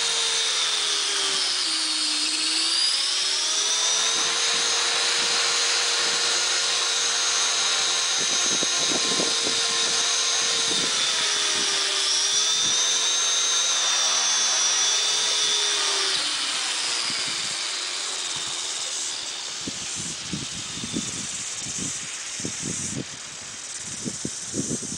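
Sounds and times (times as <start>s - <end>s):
helicopter motor whine: 0.0s - 24.9s.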